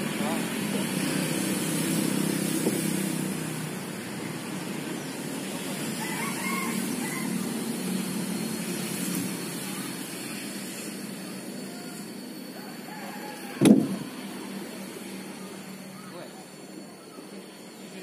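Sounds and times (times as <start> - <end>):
saw table engine running: 0.0 - 18.0.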